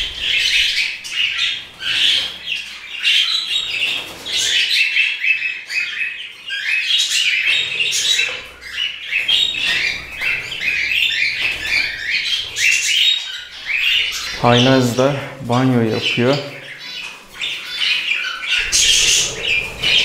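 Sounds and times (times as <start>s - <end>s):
parrots chirping: 0.0s - 20.0s.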